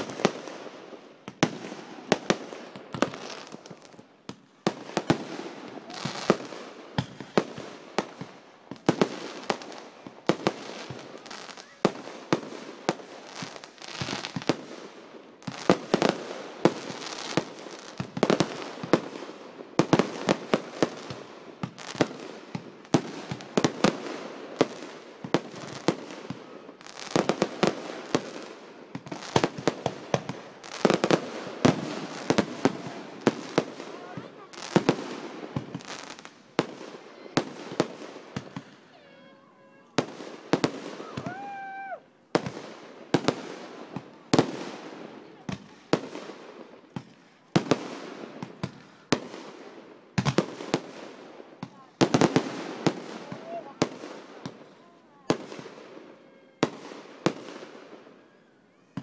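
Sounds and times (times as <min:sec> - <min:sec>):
fireworks bangs: 0:00.0 - 0:59.0
fireworks crackle: 0:00.0 - 0:59.0.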